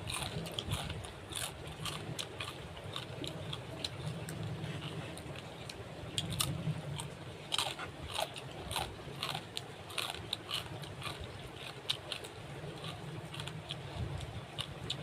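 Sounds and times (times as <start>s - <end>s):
crunchy chewing of crisp food: 0.0s - 15.0s.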